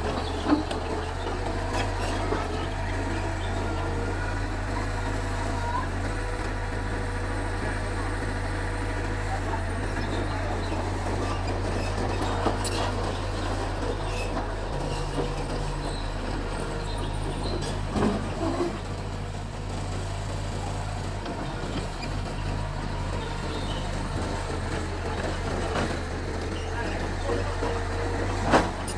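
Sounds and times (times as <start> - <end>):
bulldozer diesel engine running: 0.0 - 28.9.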